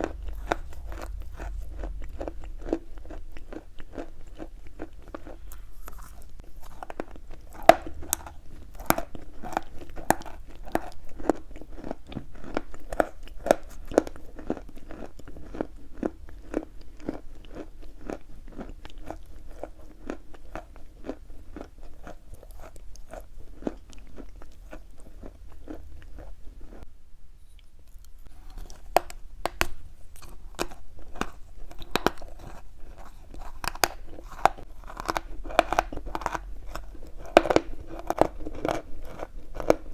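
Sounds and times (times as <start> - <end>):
chalk crunching while chewed: 0.0 - 26.8, 27.9 - 39.9.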